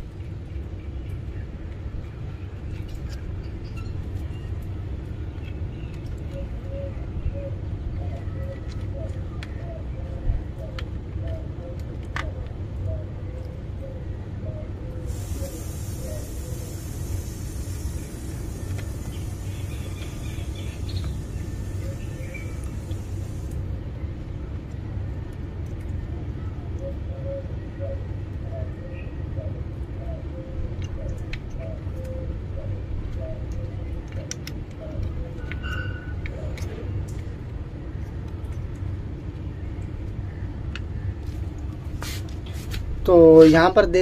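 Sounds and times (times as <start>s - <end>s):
low background rumble: 0.0s - 44.0s.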